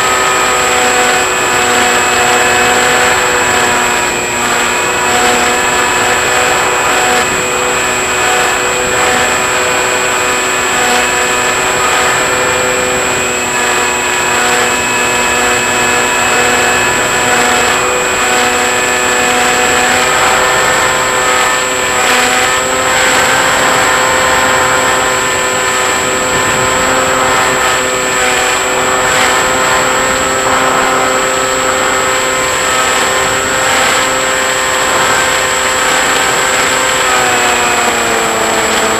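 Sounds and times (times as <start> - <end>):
model airplane motor whine: 0.0 - 38.9
rushing wind: 0.0 - 38.9.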